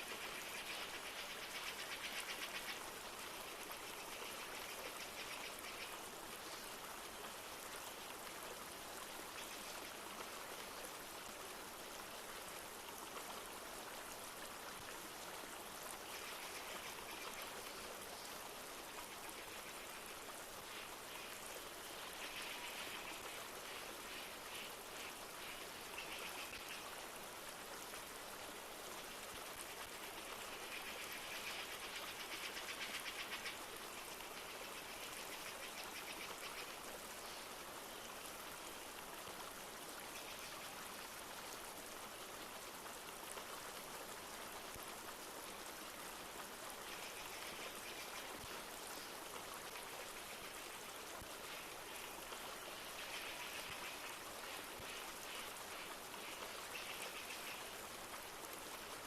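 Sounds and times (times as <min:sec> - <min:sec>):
light rain: 0:00.0 - 0:59.0.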